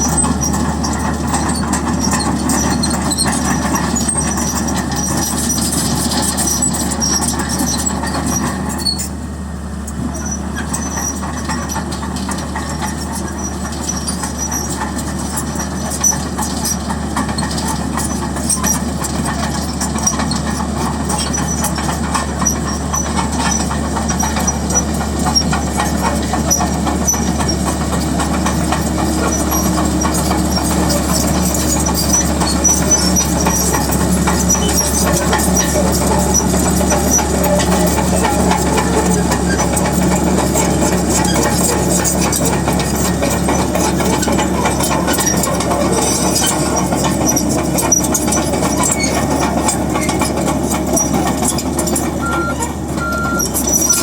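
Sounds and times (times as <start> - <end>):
diesel engine drone: 0.0 - 54.0
metal crawler tracks clanking: 0.0 - 54.0.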